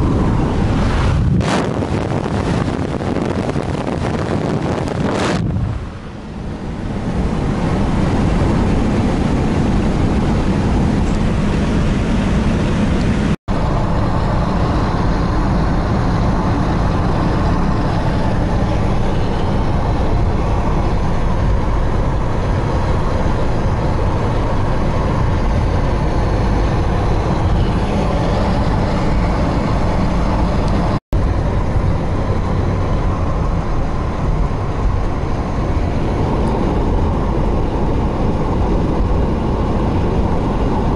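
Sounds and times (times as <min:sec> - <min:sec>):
car road noise: 0:00.0 - 0:40.9.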